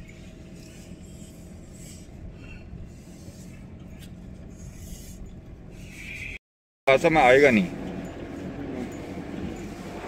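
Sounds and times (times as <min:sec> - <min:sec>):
road and engine noise in car: 0:00.0 - 0:10.0.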